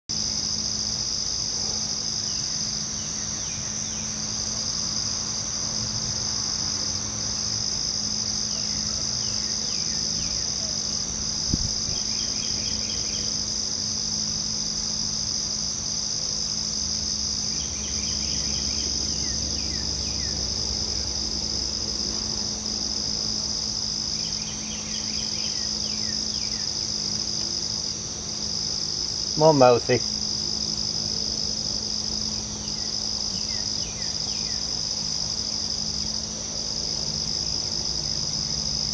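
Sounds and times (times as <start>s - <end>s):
night insects chorus: 0.1s - 38.9s.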